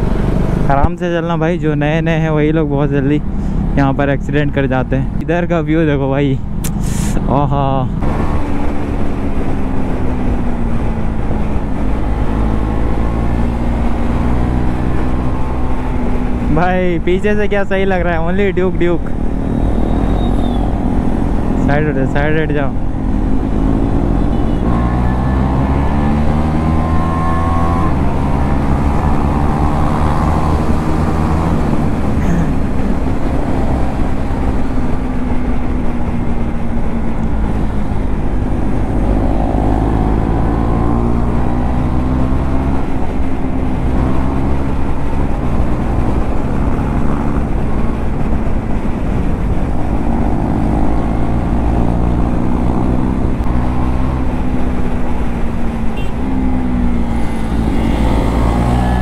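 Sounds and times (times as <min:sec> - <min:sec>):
motorcycle engine revving: 0:08.0 - 0:16.5, 0:18.8 - 0:59.0.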